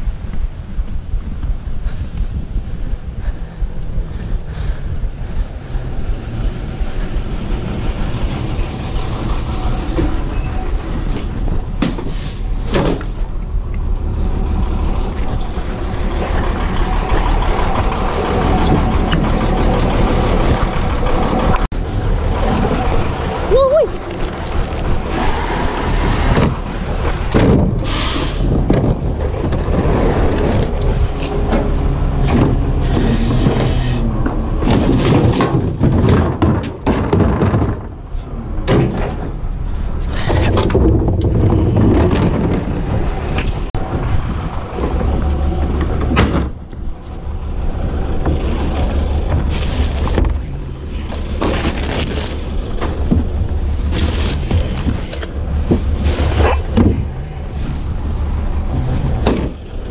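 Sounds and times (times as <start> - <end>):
garbage truck engine rumbling: 0.0 - 59.9
trash carts knocking and clattering: 5.8 - 13.9, 14.5 - 23.3, 24.0 - 59.9.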